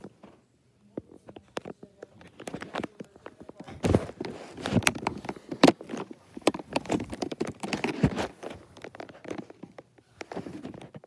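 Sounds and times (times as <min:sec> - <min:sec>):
phone handling knocks and rustles: 0:01.3 - 0:11.0.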